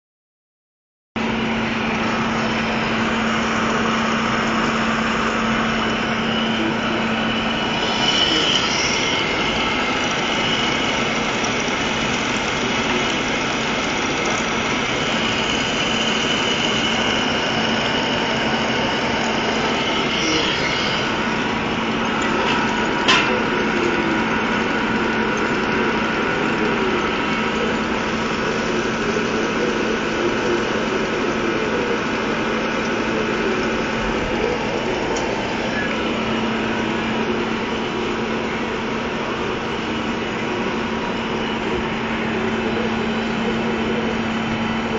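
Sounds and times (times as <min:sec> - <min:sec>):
high whine of cutting steel: 0:01.2 - 0:44.9
lathe whirring and humming: 0:01.2 - 0:44.9.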